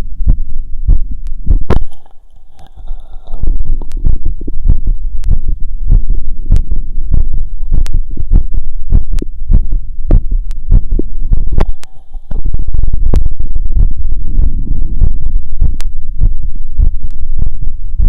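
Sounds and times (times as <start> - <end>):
low hum: 0.0 - 18.0
fast heartbeat through stethoscope: 0.2 - 18.0.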